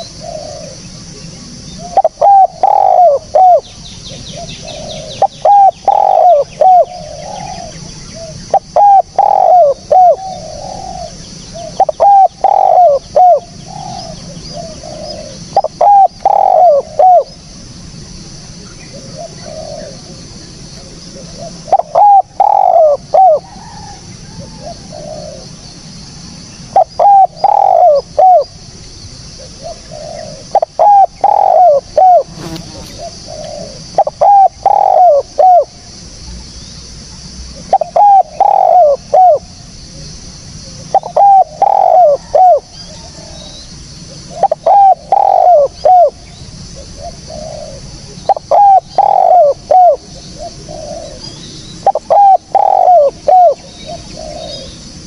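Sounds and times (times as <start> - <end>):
dove cooing: 0.0 - 17.4, 18.8 - 25.6, 26.7 - 28.5, 29.4 - 35.8, 37.6 - 39.5, 40.6 - 43.5, 44.1 - 46.2, 46.8 - 54.8
steady high-pitched hiss: 0.0 - 55.0.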